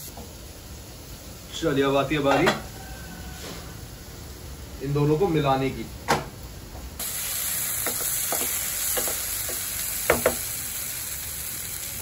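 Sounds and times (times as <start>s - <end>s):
gravy sizzling in a pan: 0.0s - 5.8s, 6.4s - 12.0s.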